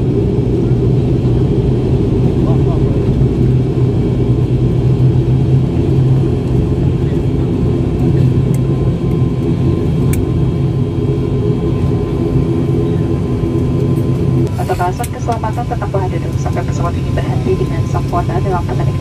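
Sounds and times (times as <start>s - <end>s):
turboprop engines droning: 0.0s - 19.0s.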